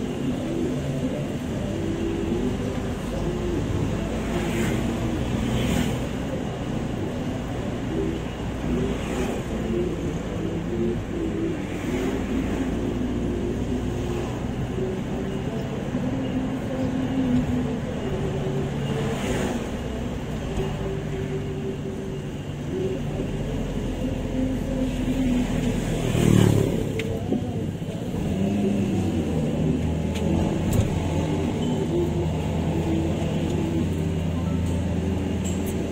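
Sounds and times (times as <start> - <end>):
road noise: 0.0 - 35.9
vehicle engine hum: 0.0 - 35.9.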